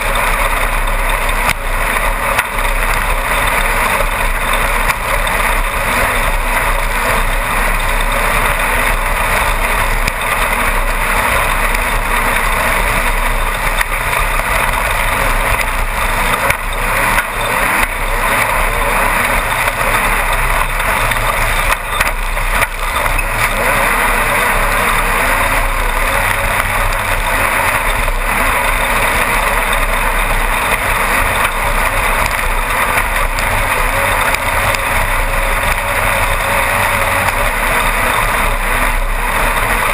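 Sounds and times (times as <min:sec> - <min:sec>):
buggy engine running hard: 0:00.0 - 0:39.9
road and chassis noise: 0:00.0 - 0:39.9.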